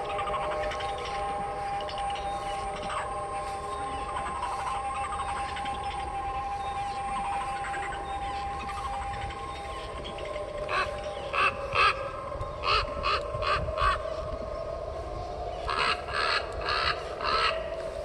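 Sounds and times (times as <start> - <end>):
recorded crow caws: 0.0 - 18.0
steady electronic tone: 0.0 - 18.0.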